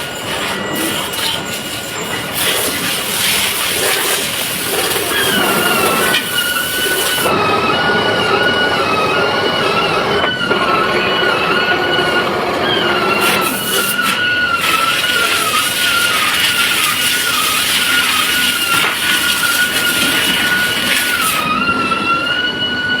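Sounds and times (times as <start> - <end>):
high-pitched mechanical squeal: 0.0 - 23.0
steady noisy rumble: 0.0 - 23.0.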